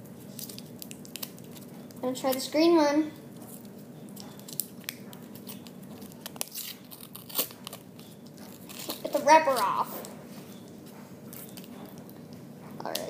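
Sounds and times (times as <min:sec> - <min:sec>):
wax paper wrapper crinkling: 0:00.0 - 0:02.5, 0:03.2 - 0:12.3.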